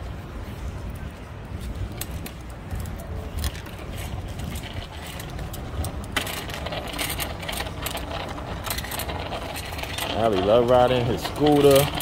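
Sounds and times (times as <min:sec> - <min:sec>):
bicycle rolling over pavement: 0:00.9 - 0:12.0
training wheels rattling and scraping: 0:01.6 - 0:12.0.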